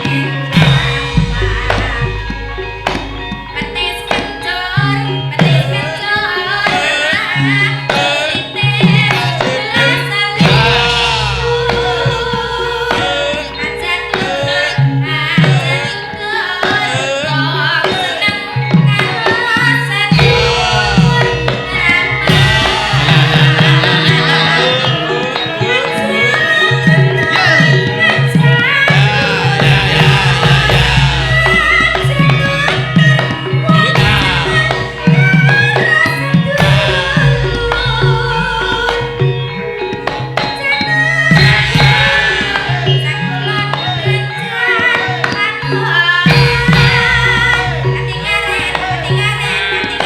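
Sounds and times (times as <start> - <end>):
person singing: 0.0 - 39.5, 40.4 - 50.0
hand drum strokes: 0.0 - 45.5
gamelan music: 0.0 - 50.0.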